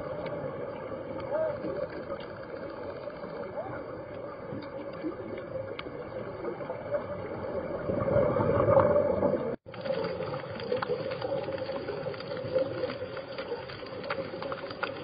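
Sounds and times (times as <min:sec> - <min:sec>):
underwater water rushing: 0:00.0 - 0:15.0.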